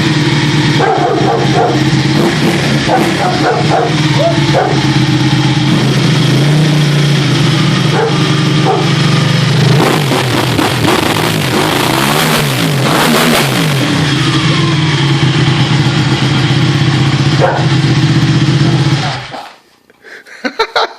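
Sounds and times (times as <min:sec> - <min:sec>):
motorcycle engine idling and revving: 0:00.0 - 0:19.5.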